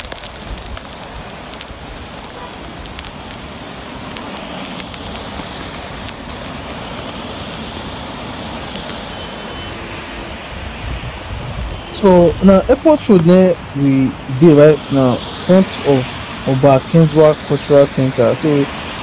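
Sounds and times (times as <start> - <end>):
car tyres hissing on wet road: 0.0 - 19.0
steady rain: 0.0 - 19.0.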